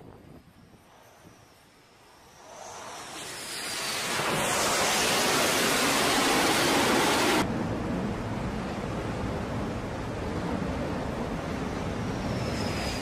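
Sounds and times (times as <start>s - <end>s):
wind and sea noise: 0.0s - 13.0s
jet engine roaring: 0.6s - 13.0s.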